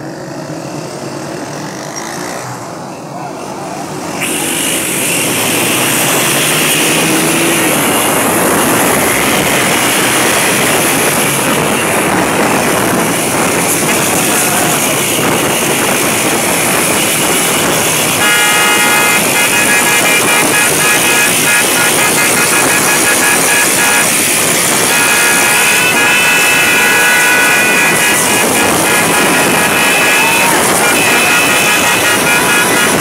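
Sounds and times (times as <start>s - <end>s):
many motorcycle engines: 0.0s - 33.0s
horn sounding: 4.1s - 33.0s.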